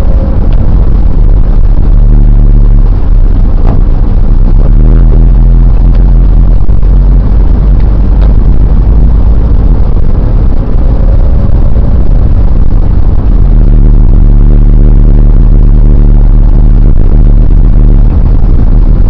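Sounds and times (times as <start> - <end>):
car engine and road noise drone: 0.0 - 19.0.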